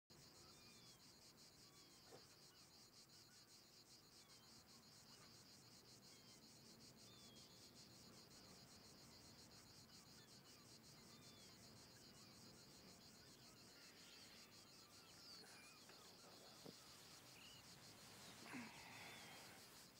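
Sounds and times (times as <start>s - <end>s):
crickets chirping: 0.1s - 19.9s.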